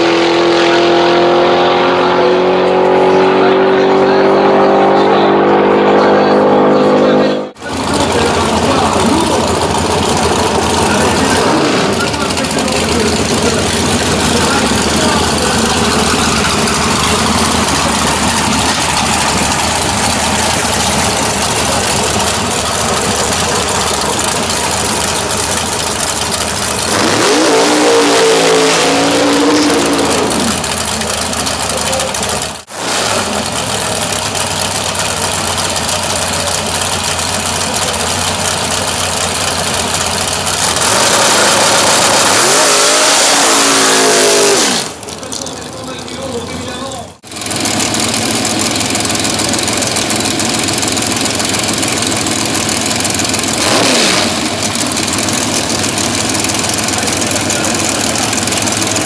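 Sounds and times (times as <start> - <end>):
dragster engine revving: 0.0 - 59.0.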